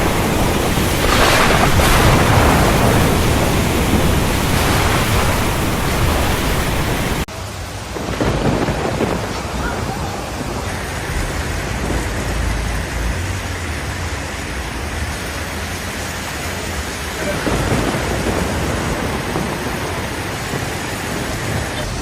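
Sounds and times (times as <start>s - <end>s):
thunder rumbling: 0.0s - 13.9s, 17.3s - 22.0s
heavy rain pouring: 0.0s - 22.0s.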